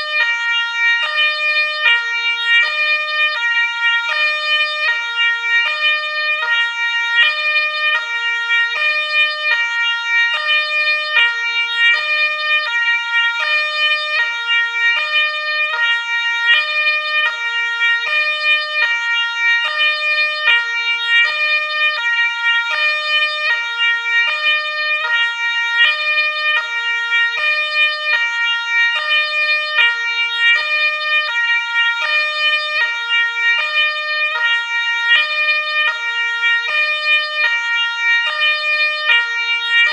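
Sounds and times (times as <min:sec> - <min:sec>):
two-tone ambulance siren: 0:00.0 - 0:39.9.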